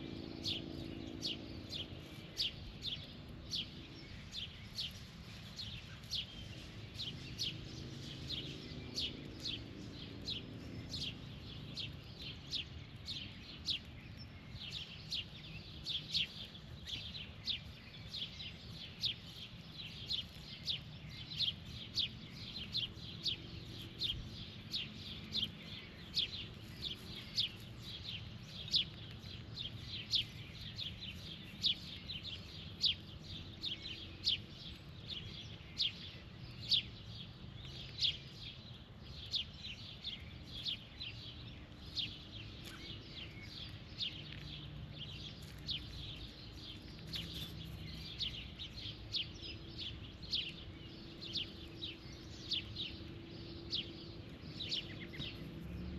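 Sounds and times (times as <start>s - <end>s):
small bird chirping: 0.0s - 55.9s.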